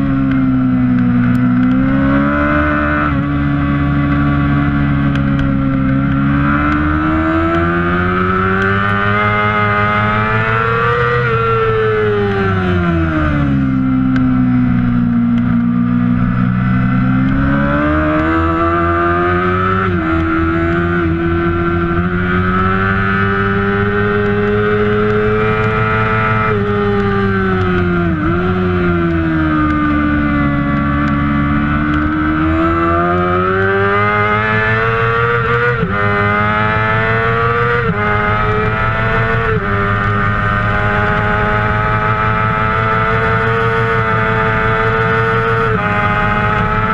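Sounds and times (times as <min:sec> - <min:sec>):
motorcycle engine at high revs: 0:00.0 - 0:46.9.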